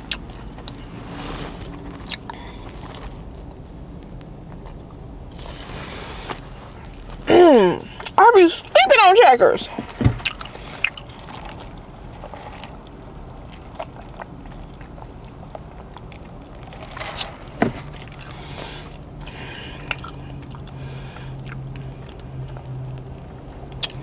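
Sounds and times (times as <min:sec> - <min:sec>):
close chewing mouth sounds: 0:00.0 - 0:08.2, 0:09.8 - 0:24.0
low steady hum: 0:00.0 - 0:24.0.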